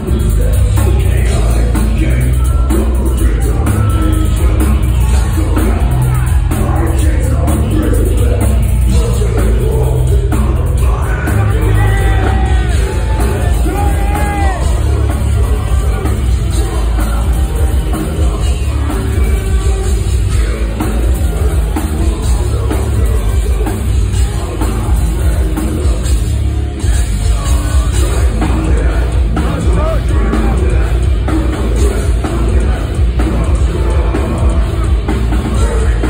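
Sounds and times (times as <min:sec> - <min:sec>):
distorted electric guitar: 0:00.0 - 0:36.0
industrial metal band playing: 0:00.0 - 0:36.0
pounding drums: 0:00.0 - 0:36.0.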